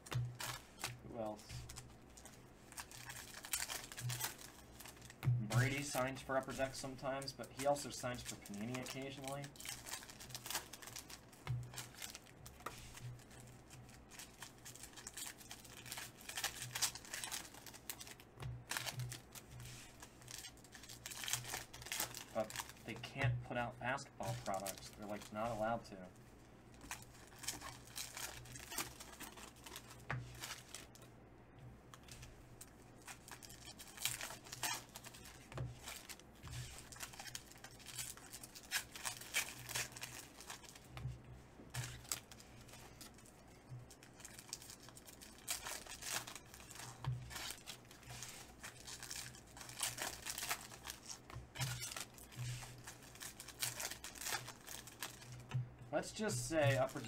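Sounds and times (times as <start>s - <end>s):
foil packs ripping open: 0.0s - 12.3s, 12.9s - 23.0s, 24.2s - 25.9s, 26.8s - 30.9s, 33.0s - 40.9s, 41.7s - 43.3s, 43.9s - 55.5s, 56.1s - 57.0s
foil wrappers crinkling: 0.0s - 26.1s, 26.7s - 31.1s, 31.9s - 41.1s, 41.7s - 57.0s.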